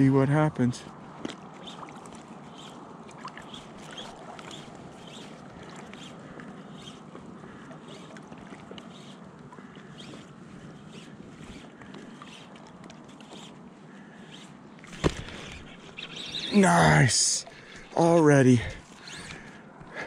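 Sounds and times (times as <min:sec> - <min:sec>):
low water wash: 0:00.0 - 0:20.0
water lapping against float tube: 0:00.8 - 0:16.7, 0:18.6 - 0:20.0.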